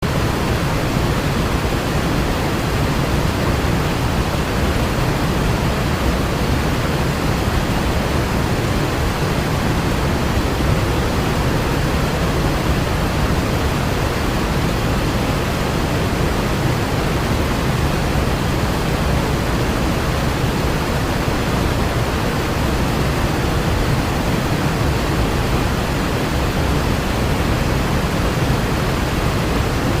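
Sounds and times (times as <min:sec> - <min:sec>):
torrent of water rushing: 0:00.0 - 0:30.0.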